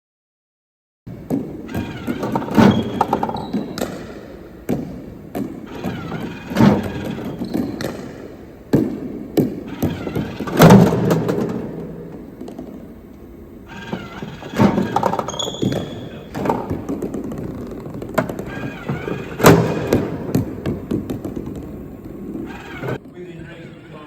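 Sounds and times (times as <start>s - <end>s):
ball machine launching thunk: 1.2s - 12.7s, 13.7s - 21.8s.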